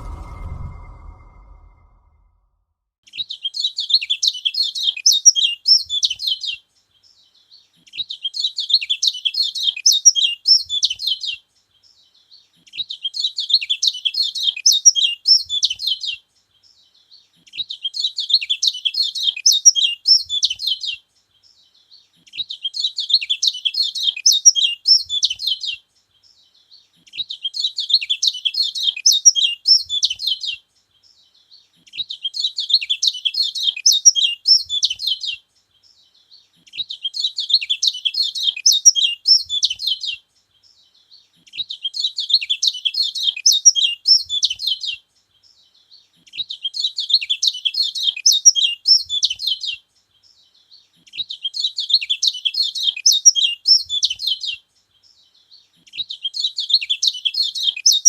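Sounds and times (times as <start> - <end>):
bird twittering song: 3.1 - 58.0.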